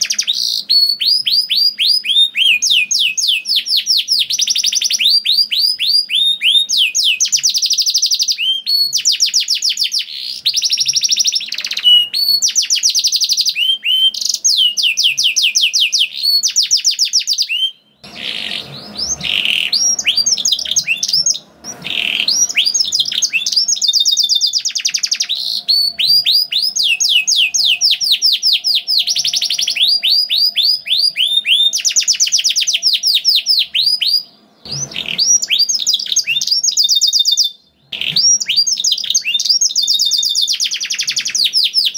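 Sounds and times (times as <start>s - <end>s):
canary singing in rapid trills: 0.0s - 41.9s.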